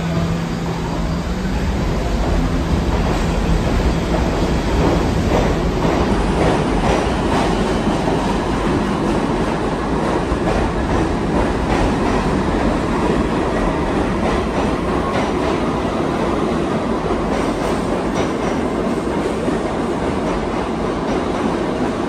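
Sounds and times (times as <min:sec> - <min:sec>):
subway train wheels rumbling: 0:00.0 - 0:22.0.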